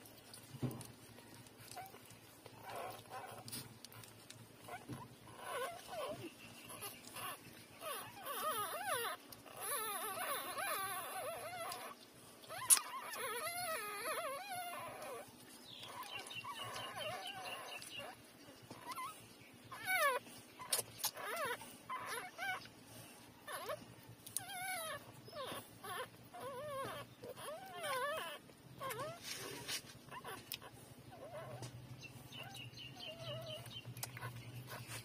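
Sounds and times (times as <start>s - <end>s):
puppies whimpering and squeaking: 0.0s - 35.0s.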